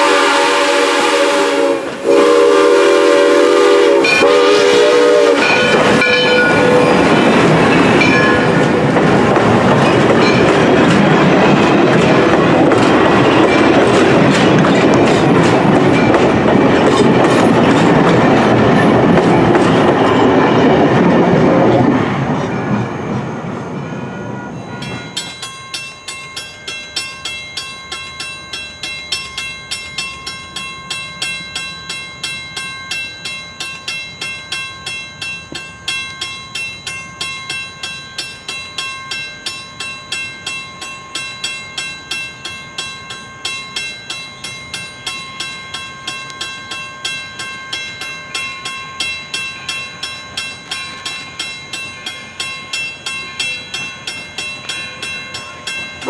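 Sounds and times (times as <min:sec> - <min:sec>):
railroad crossing bell ringing: 0:00.0 - 0:56.0.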